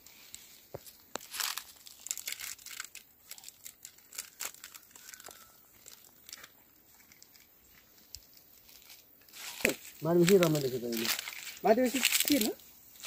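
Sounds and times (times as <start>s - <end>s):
dry sticks and leaves crackling: 0.0s - 13.0s.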